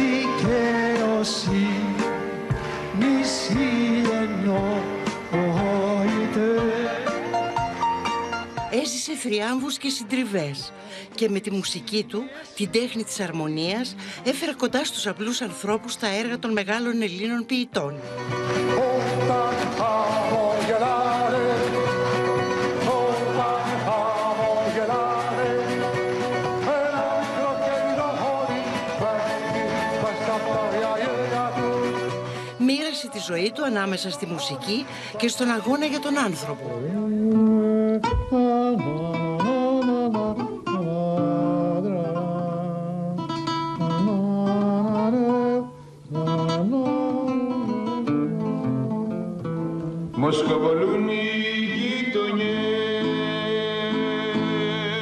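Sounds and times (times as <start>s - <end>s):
man singing: 0.0s - 7.8s, 8.7s - 17.1s, 18.3s - 55.0s
acoustic guitar: 0.0s - 55.0s
instrumental accompaniment: 0.0s - 55.0s.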